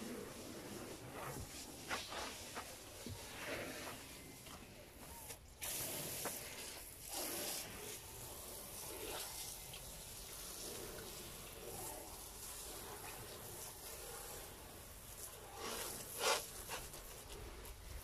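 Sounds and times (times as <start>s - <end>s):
faint water sounds: 0.0s - 18.0s.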